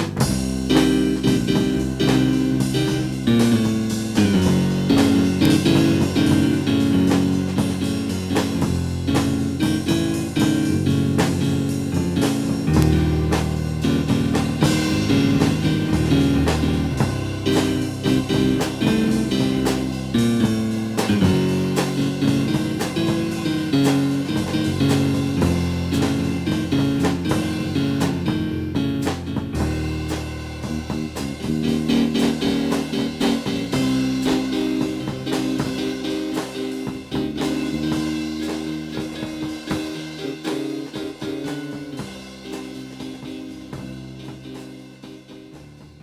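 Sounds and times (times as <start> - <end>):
blues-rock music with guitar and drums: 0.0 - 46.0.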